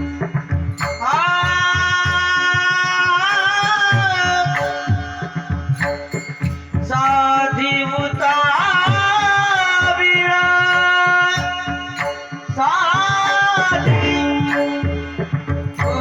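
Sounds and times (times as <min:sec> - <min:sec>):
tabla strokes: 0:00.0 - 0:16.0.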